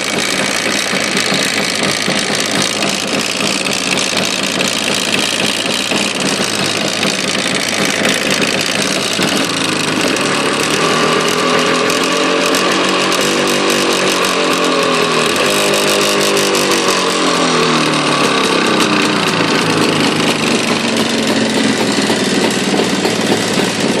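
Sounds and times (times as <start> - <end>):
engine knocking: 0.0 - 24.0
motorcycle engine revving and idling: 0.0 - 24.0.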